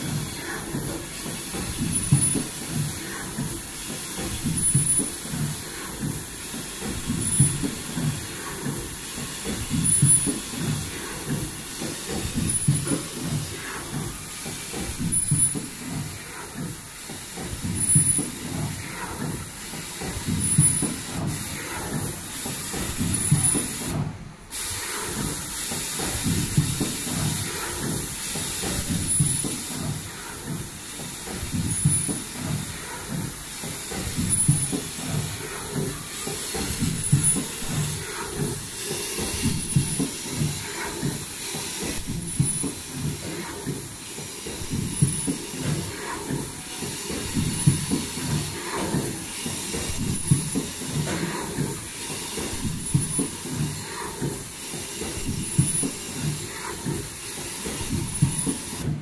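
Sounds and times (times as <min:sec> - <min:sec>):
air hissing: 0:00.0 - 0:59.0
machine mechanical clatter: 0:00.0 - 0:59.0.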